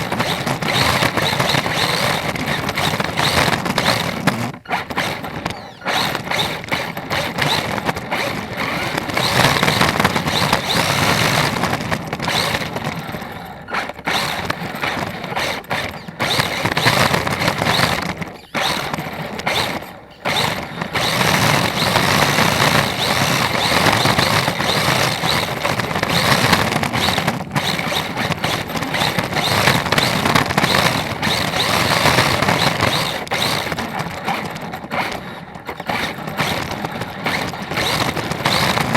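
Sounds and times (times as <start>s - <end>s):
rc car motor whine: 0.0s - 38.9s.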